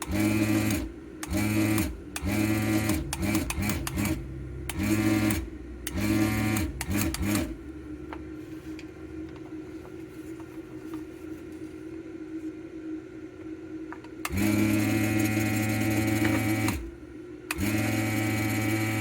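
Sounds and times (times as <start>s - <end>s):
faint steady hum: 0.0s - 17.6s
vacuum pump motor humming: 0.0s - 19.0s.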